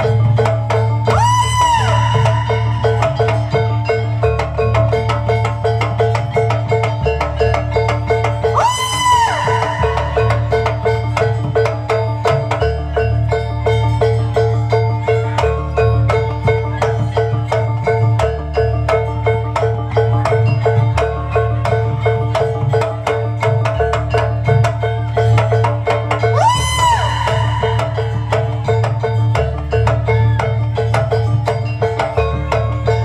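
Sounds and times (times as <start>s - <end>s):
gamelan metallophones: 0.0s - 33.0s.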